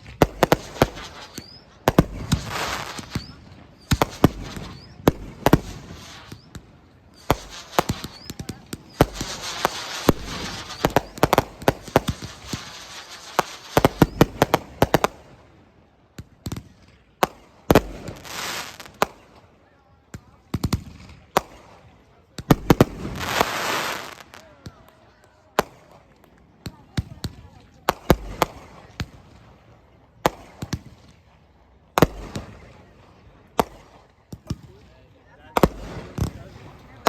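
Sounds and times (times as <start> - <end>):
fireworks bangs: 0.0 - 15.6, 16.2 - 19.5, 20.1 - 37.0
fireworks crackling and hissing: 0.0 - 37.0.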